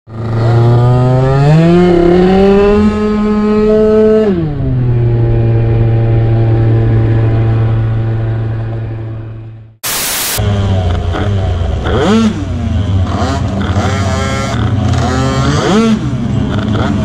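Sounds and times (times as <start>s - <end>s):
scooter engine revving: 0.1s - 8.7s, 10.4s - 17.0s.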